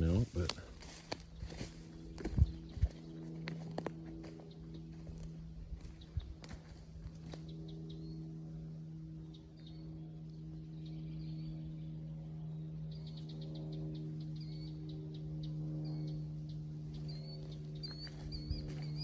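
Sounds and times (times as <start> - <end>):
songbirds chirping: 0.0 - 19.0
steady low hum: 0.0 - 19.0.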